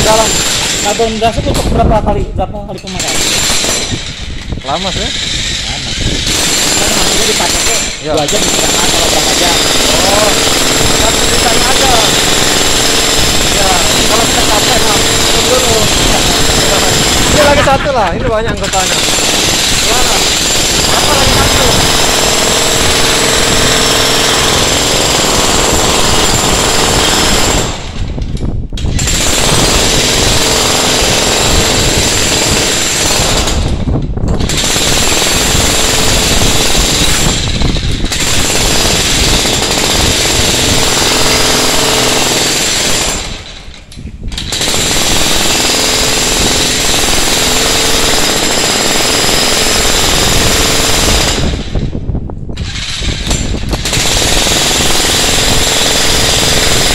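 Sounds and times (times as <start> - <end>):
demolition hammer chiselling concrete: 0.0 - 51.8, 52.6 - 56.9.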